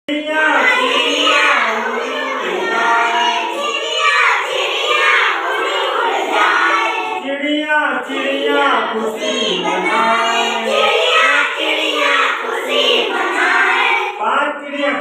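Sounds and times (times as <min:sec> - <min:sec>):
children singing in chorus: 0:00.4 - 0:07.3, 0:08.0 - 0:15.0.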